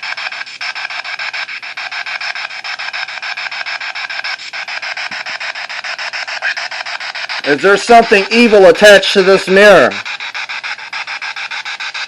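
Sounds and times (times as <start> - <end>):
radio static clicking slices: 0.0 - 12.0.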